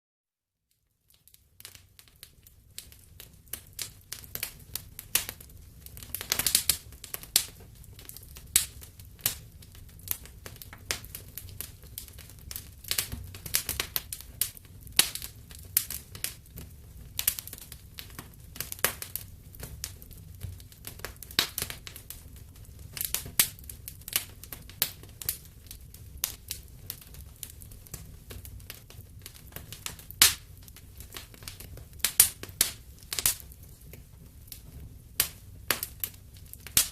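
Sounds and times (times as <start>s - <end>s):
wood fire crackling and popping: 0.8s - 36.9s
low rumble of flames: 1.4s - 36.9s.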